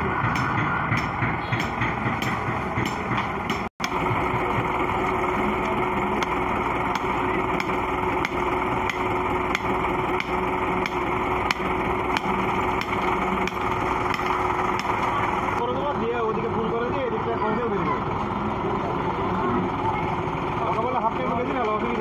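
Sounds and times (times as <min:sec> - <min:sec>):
concrete mixer truck running: 0:00.0 - 0:22.0.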